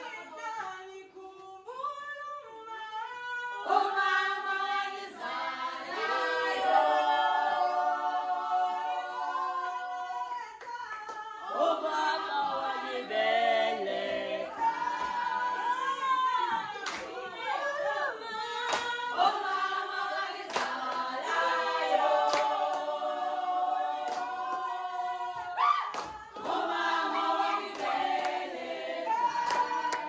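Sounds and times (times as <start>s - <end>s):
group singing a cappella: 0.0s - 30.0s.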